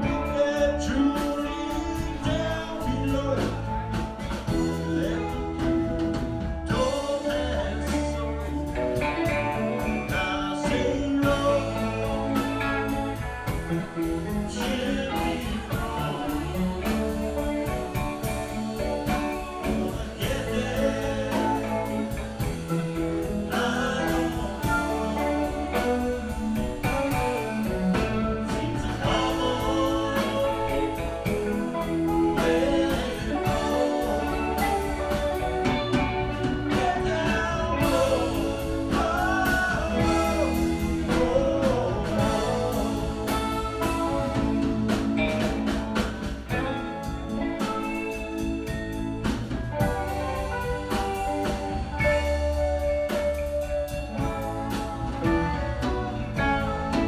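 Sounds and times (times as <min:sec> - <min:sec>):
live rock band playing: 0:00.0 - 0:57.0
person singing: 0:00.0 - 0:57.0
steady drum beat: 0:00.0 - 0:57.0.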